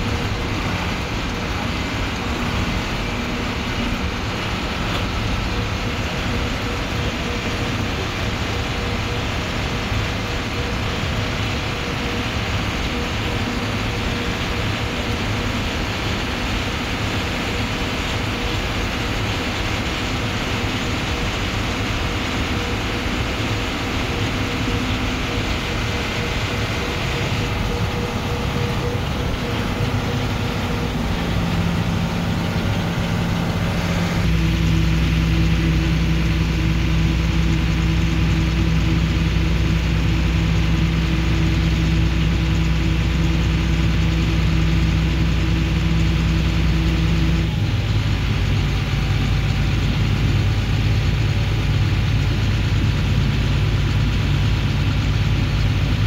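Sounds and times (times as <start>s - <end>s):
diesel engines droning: 0.0s - 56.0s.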